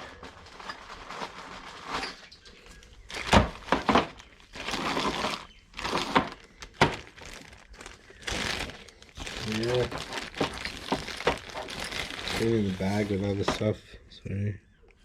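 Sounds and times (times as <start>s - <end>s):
rustling: 0.0s - 13.8s.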